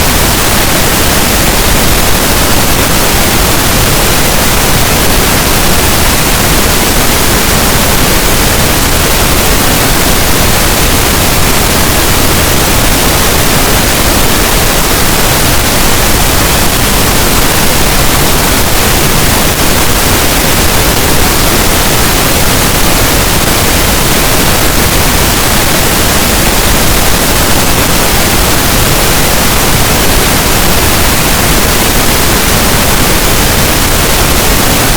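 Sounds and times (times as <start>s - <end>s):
pink noise hiss: 0.0s - 34.9s.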